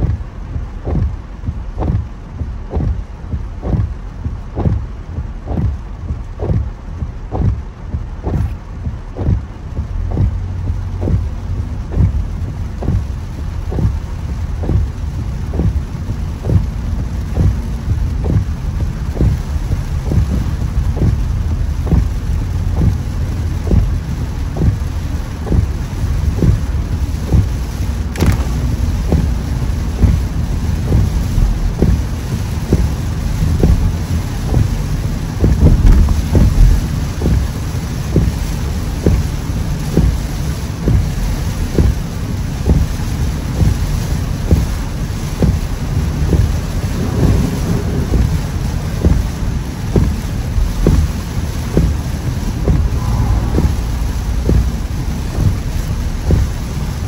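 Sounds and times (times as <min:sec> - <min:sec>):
heavy rain drumming on car: 0:00.0 - 0:57.0
tyres running through water: 0:00.0 - 0:57.0
windscreen wipers thumping: 0:00.0 - 0:57.0.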